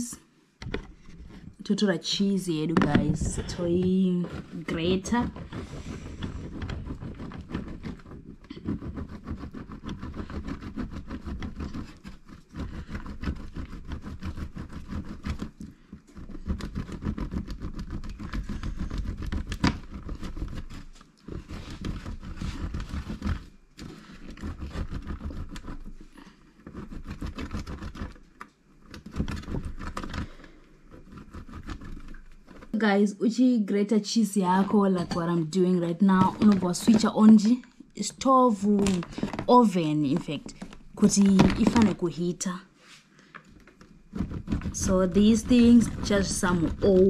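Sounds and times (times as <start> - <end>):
cheese grating on metal grater: 1.1 - 32.8, 36.0 - 42.5, 43.7 - 47.0.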